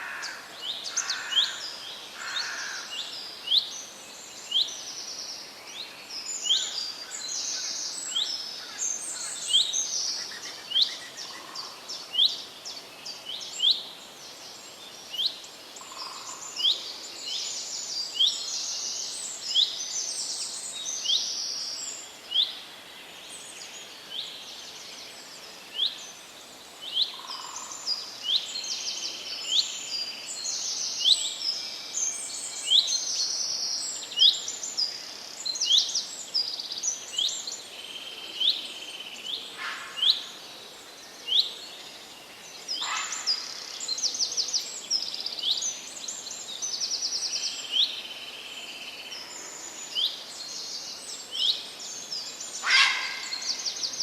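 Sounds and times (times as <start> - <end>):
faint background hiss: 0.0 - 54.0
songbirds chirping and trilling: 0.0 - 54.0.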